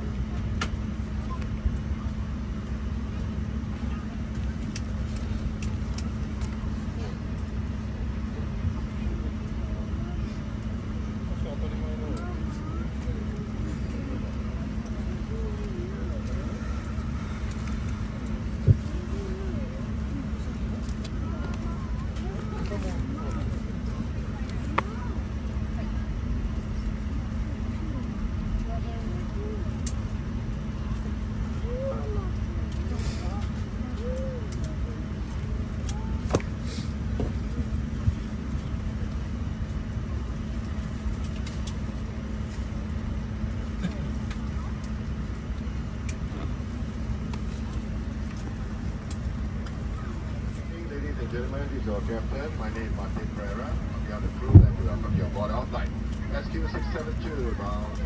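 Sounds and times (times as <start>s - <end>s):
airliner cabin hum: 0.0s - 58.0s
faint passenger voices: 0.0s - 58.0s.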